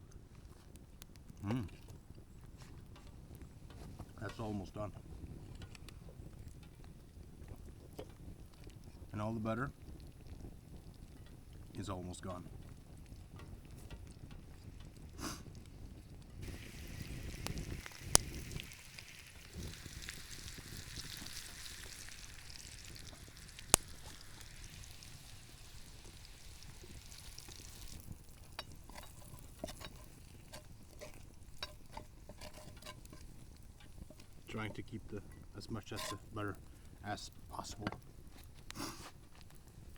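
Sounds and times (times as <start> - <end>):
potatoes sizzling in a pan: 1.5 - 39.9.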